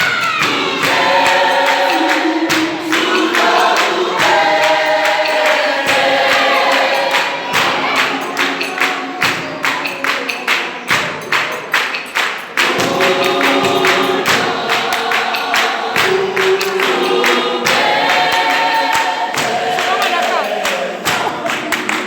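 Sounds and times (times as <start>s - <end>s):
sharp knocking beat: 0.0s - 22.0s
vocal group singing in harmony: 0.0s - 22.0s.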